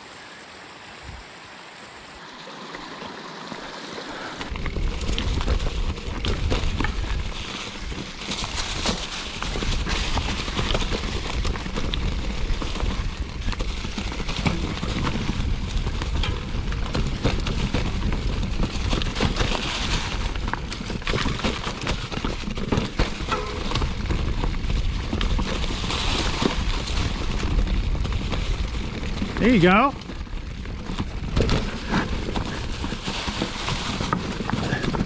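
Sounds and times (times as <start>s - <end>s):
bike rattling and clicking: 4.4s - 35.0s.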